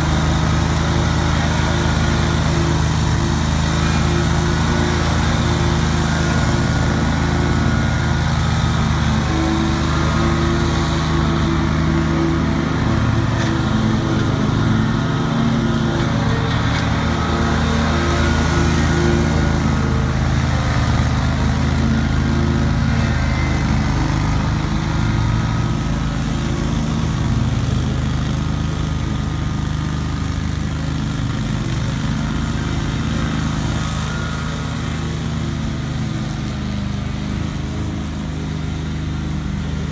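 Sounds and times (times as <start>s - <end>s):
lawn mower engine under load: 0.0s - 39.9s.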